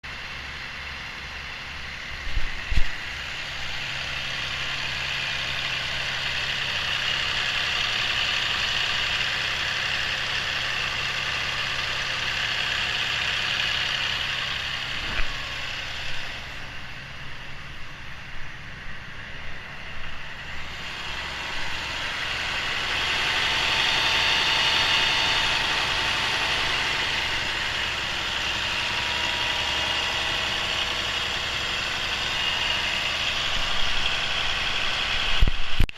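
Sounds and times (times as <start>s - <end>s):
diesel engine idling: 0.0s - 35.9s.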